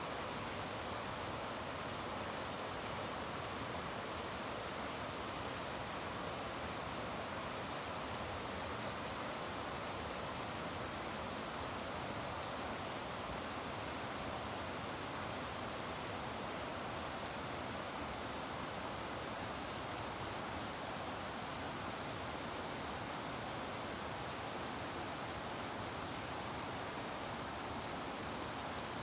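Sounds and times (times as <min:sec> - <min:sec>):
steady outdoor hiss by a pond: 0:00.0 - 0:29.0.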